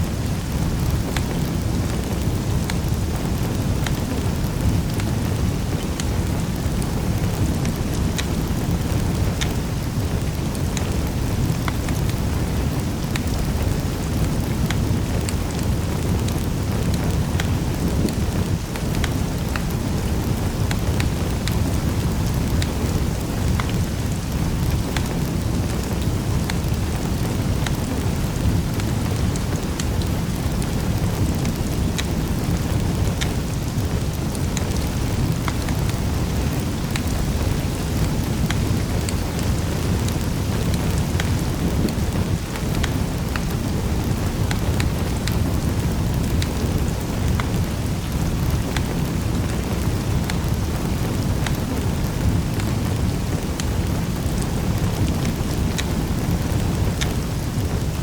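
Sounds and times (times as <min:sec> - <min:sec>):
fire pops and snaps: 0:00.0 - 0:58.0
low rumble of flames: 0:00.0 - 0:58.0.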